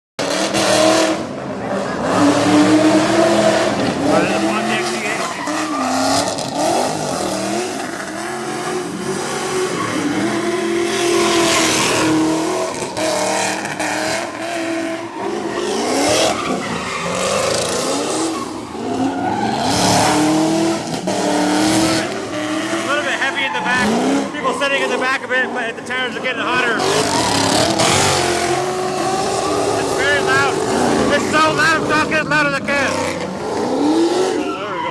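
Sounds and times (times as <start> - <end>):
car engine at high revs: 0.2 - 34.9
tyres squealing in burnout: 0.4 - 34.9.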